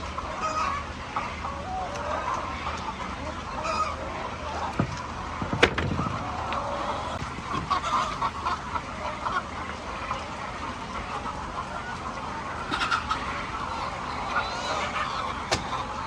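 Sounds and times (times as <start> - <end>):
hens clucking and squawking: 0.0 - 16.0.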